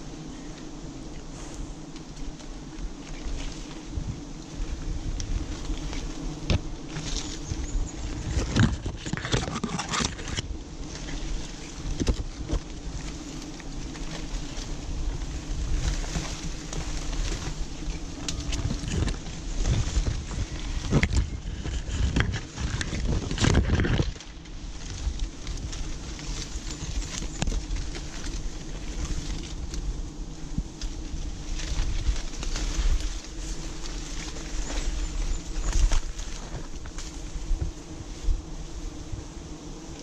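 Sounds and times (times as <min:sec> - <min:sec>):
leaves rustling and scraping: 0:00.0 - 0:40.0.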